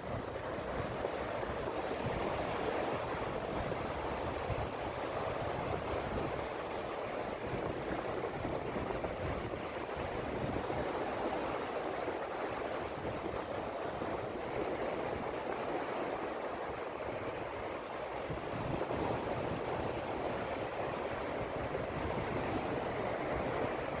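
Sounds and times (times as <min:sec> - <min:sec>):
sea waves washing onto beach: 0:00.0 - 0:24.0.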